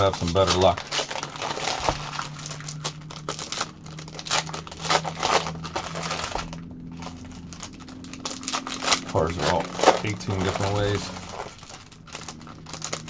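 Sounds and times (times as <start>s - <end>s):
foil wrappers crinkling and tearing: 0.0s - 13.0s.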